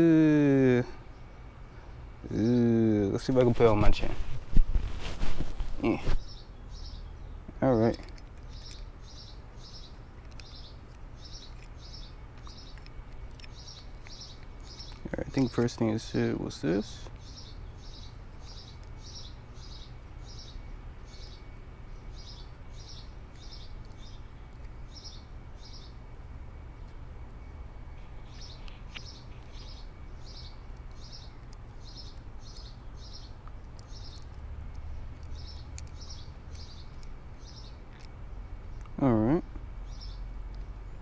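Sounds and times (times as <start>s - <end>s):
bird chirping: 0.8s - 26.1s, 26.7s - 34.4s, 35.0s - 41.0s.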